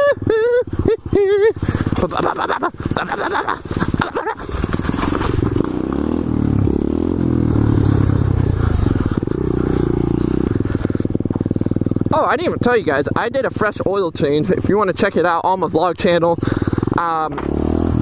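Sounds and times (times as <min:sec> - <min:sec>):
motorbike engine revving: 0:00.0 - 0:13.4, 0:14.4 - 0:18.0.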